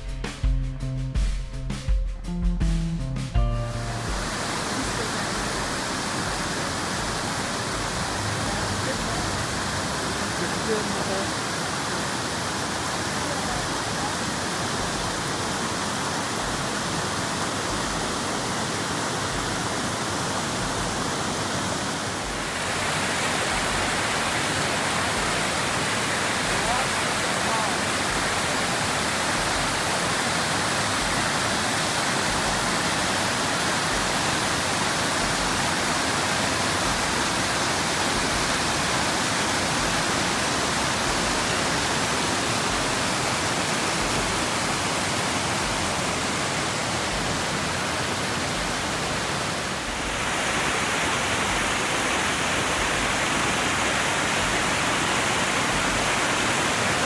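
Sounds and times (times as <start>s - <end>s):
water rushing over rocks: 3.8s - 57.0s.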